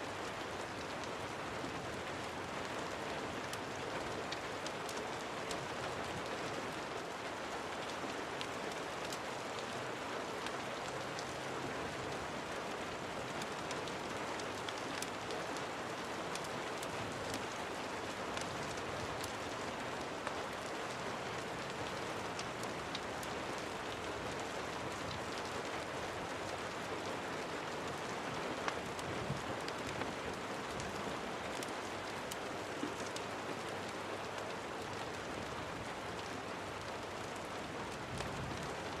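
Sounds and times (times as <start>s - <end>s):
rain falling: 0.0s - 39.0s
light ticks and pops: 2.7s - 7.0s, 7.7s - 9.8s, 10.4s - 12.2s, 12.8s - 39.0s.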